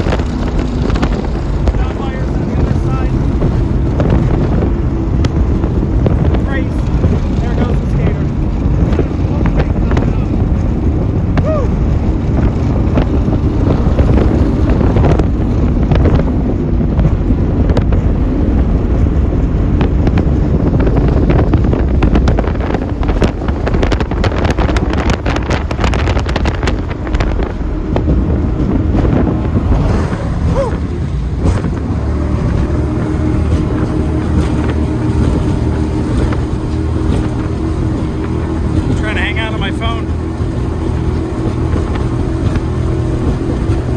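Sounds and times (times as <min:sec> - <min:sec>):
powerboat engine rumbling: 0:00.0 - 0:43.9
wind buffeting microphone: 0:00.0 - 0:43.9.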